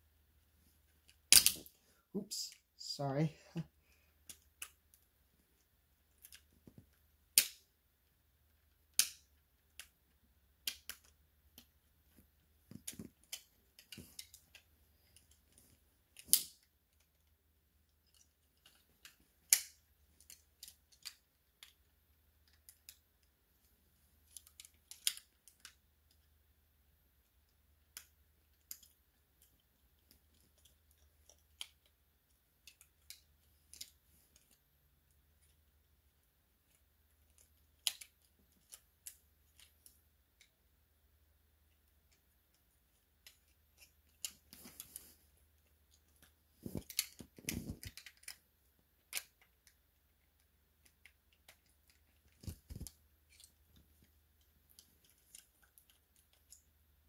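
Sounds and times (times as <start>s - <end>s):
plastic toy parts clicking: 1.0s - 1.8s, 4.2s - 5.1s, 6.1s - 7.7s, 8.5s - 23.3s, 24.2s - 26.3s, 27.2s - 34.6s, 36.6s - 40.6s, 41.7s - 44.9s, 45.6s - 56.8s.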